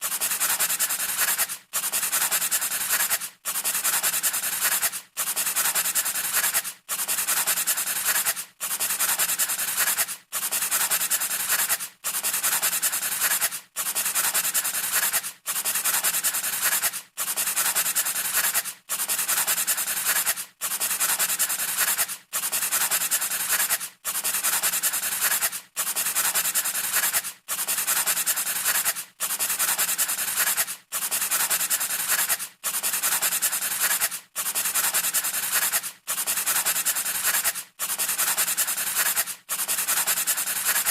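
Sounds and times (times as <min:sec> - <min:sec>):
pencil scratching on paper: 0:00.0 - 0:40.9.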